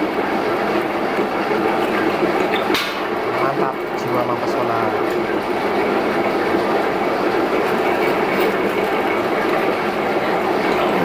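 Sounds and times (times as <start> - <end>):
meat machine grinding: 0.0 - 11.0.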